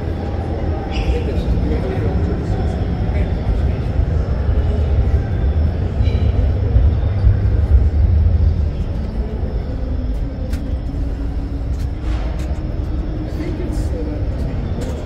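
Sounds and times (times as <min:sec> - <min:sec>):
busy exhibition hall din: 0:00.0 - 0:15.0
steady low rumble: 0:00.0 - 0:15.0.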